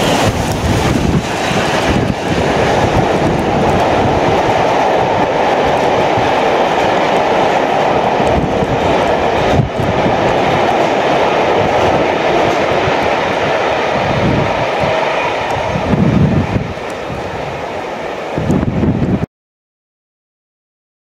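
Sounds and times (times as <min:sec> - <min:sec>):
wheels clattering on rails: 0:00.0 - 0:19.2
train coaches rushing past: 0:00.0 - 0:19.3.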